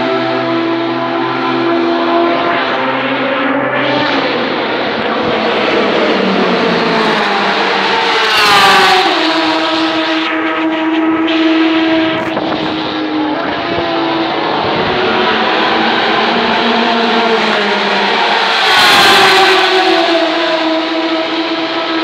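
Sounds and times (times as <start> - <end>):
racing car engines: 0.0 - 22.0
racing car passing close: 0.0 - 22.0.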